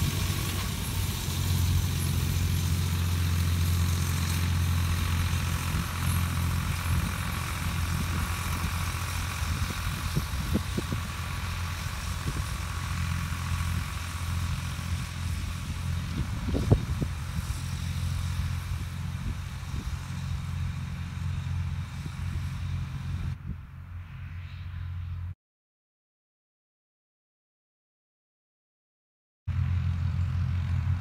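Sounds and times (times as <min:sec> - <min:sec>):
tractor engine running: 0:00.0 - 0:25.3, 0:29.5 - 0:31.0.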